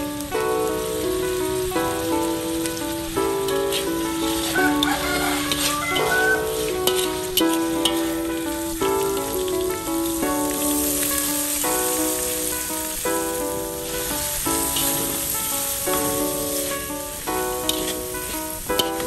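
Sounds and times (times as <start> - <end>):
background music of sustained chords: 0.0 - 19.0
noodles sizzling in a wok: 0.0 - 19.0.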